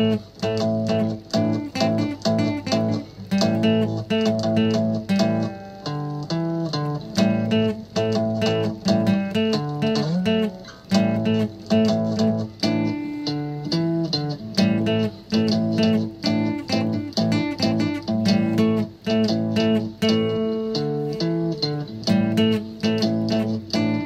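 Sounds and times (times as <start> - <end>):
guitar chords strummed: 0.0 - 24.0.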